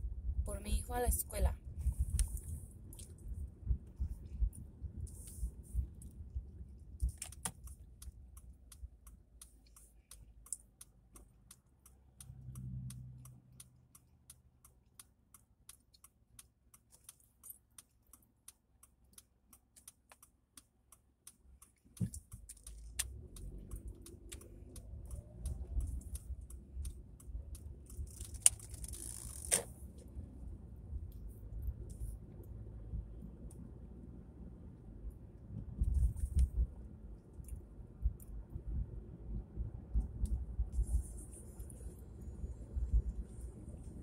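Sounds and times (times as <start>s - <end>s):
engine and road rumble: 0.0s - 44.0s
turn signal ticking: 2.1s - 44.0s.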